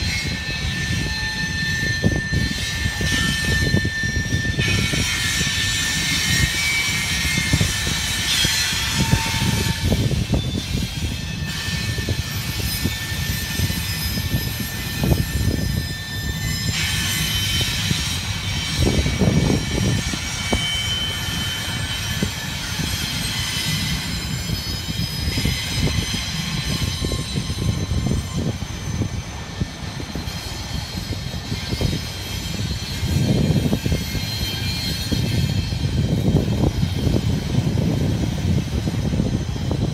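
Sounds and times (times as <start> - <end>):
high-pitched wheel squeal: 0.0 - 39.9
train rumbling past: 0.0 - 39.9.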